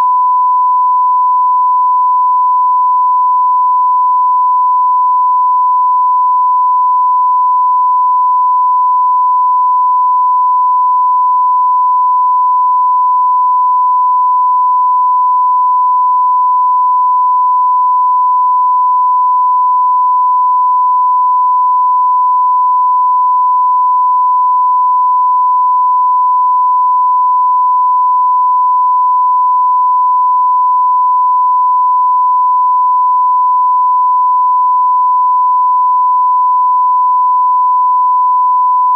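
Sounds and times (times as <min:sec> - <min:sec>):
sine test tone: 0:00.0 - 0:38.9.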